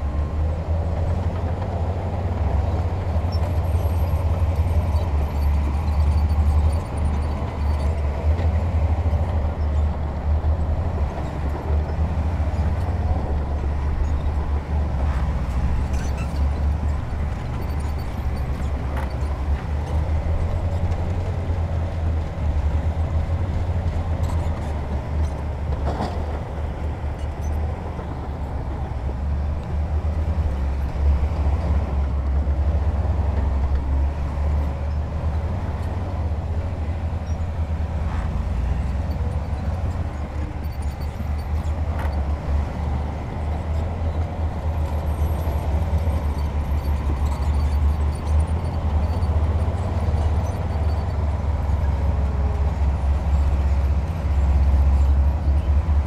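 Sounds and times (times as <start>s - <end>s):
heavy diesel machinery rumbling: 0.0s - 56.0s.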